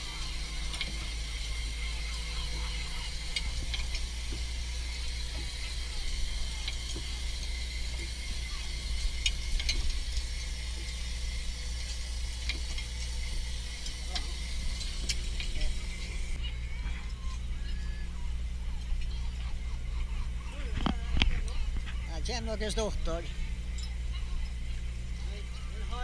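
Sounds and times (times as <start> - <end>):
line hauler winding fishing line: 0.0 - 26.0
low engine hum: 0.0 - 26.0.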